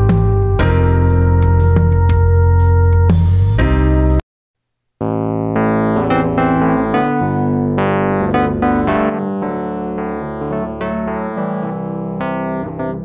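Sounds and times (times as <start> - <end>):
held low keyboard chords: 0.0 - 4.2, 5.0 - 13.0
piano-like keyboard notes: 0.0 - 4.2, 5.0 - 13.0.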